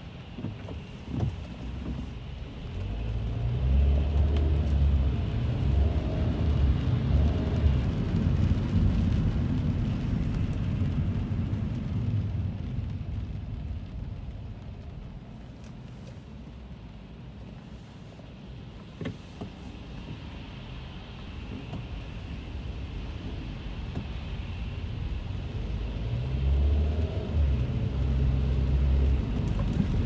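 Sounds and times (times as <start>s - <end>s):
tyres and engine rumble: 0.0s - 30.0s
rain hiss: 0.1s - 30.0s.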